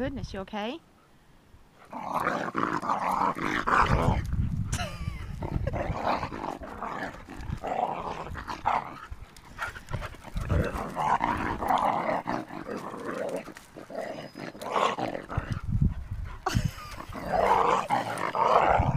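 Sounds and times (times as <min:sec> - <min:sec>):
dogs play-growling: 0:01.7 - 0:18.9.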